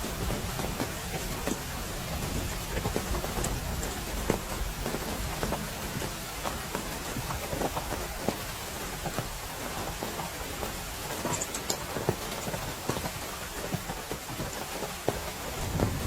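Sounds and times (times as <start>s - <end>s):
heavy rain: 0.0s - 16.0s
large raindrops striking: 0.0s - 16.0s.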